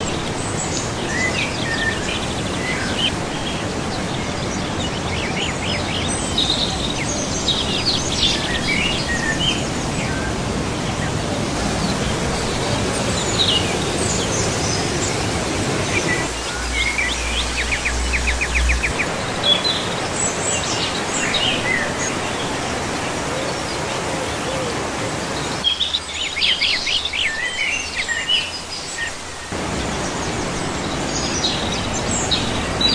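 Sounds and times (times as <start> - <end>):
outdoor background noise: 0.0 - 32.9
songbirds chirping and trilling: 0.0 - 32.9.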